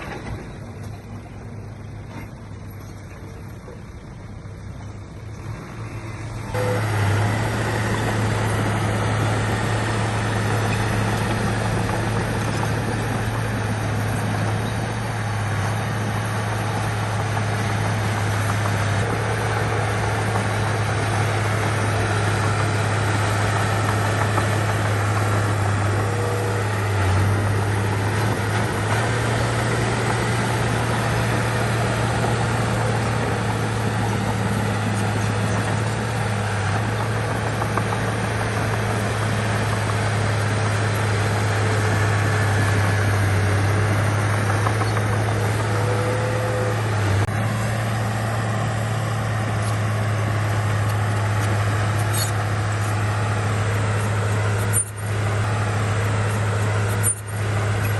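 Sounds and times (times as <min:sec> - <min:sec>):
heavy diesel engine droning: 0:00.0 - 0:57.9.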